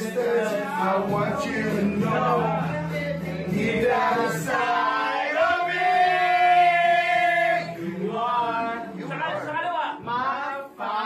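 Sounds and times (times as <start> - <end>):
people chanting and shouting: 0.0 - 11.0.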